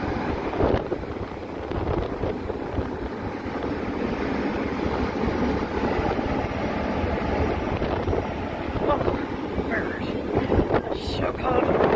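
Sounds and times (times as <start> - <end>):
fire truck engine rumbling: 0.0 - 11.9
wind buffeting the microphone: 0.0 - 11.9.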